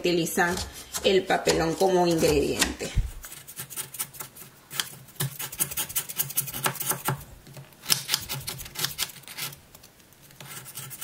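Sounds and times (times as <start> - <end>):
knife scraping sugar block: 0.4 - 7.2, 7.8 - 9.6, 10.2 - 11.0.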